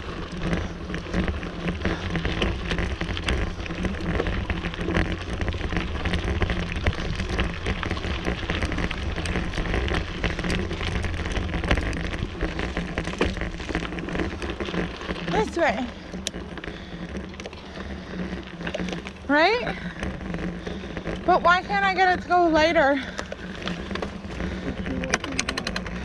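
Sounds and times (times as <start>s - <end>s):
bike rattling over trail: 0.0s - 26.0s
wind rumbling on microphone: 0.0s - 26.0s.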